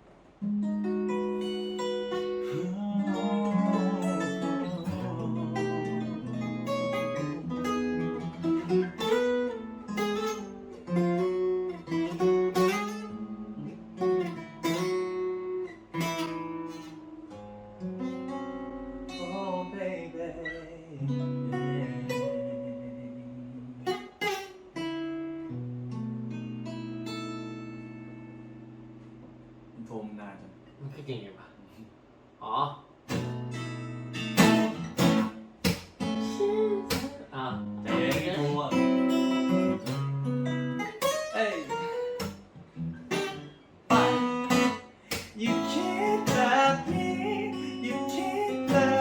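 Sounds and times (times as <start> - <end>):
acoustic guitar playing: 0.0 - 29.8, 33.0 - 49.0.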